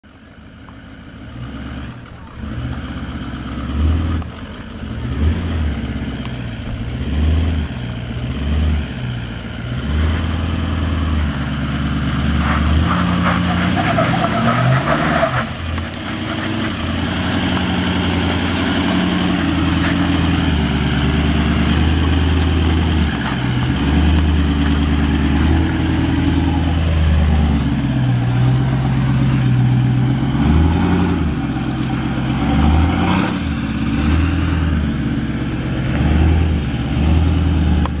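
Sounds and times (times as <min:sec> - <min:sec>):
diesel engine revving under load: 0:01.1 - 0:38.0.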